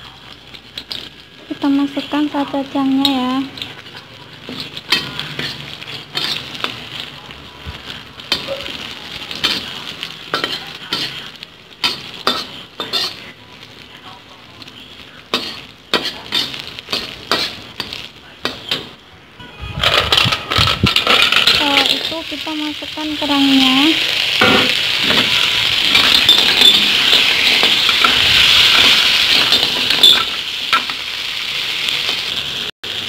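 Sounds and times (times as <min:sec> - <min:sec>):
sauce sizzling in hot oil: 0:00.0 - 0:19.0, 0:20.7 - 0:33.0
metal spatula scraping a wok: 0:00.3 - 0:13.4, 0:14.6 - 0:19.0, 0:19.7 - 0:32.4.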